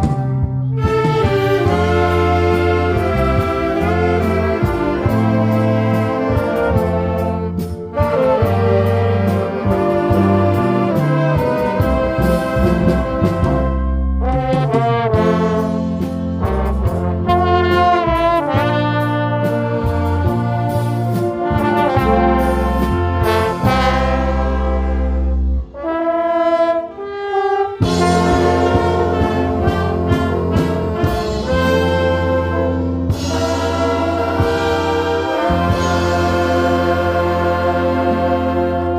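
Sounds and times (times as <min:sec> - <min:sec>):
bass and drums: 0:00.0 - 0:25.8, 0:27.8 - 0:38.9
brass-like lead melody: 0:00.0 - 0:38.9.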